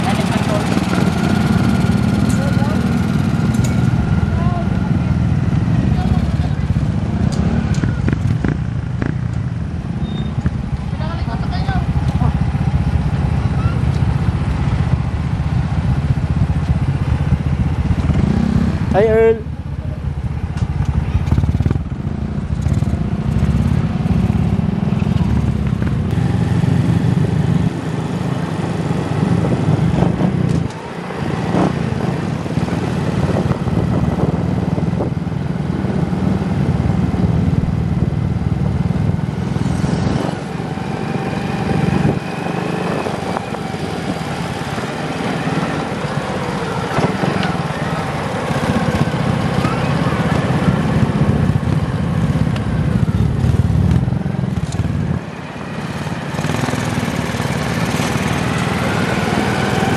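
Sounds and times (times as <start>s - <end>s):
motorcycle engines droning: 0.0s - 59.9s.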